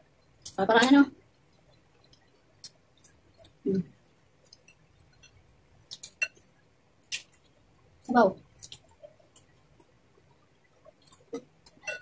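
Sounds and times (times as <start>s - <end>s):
soft chewing: 1.2s - 12.0s.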